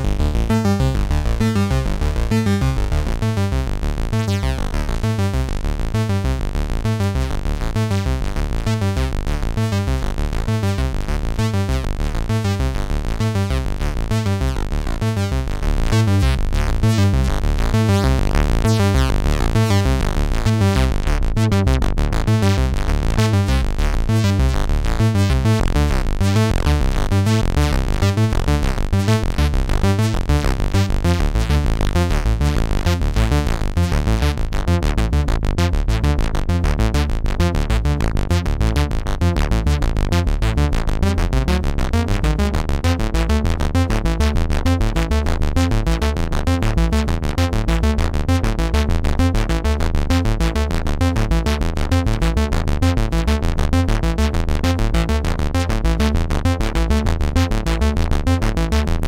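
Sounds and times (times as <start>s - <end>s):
synthesizer bass pattern: 0.0s - 59.0s.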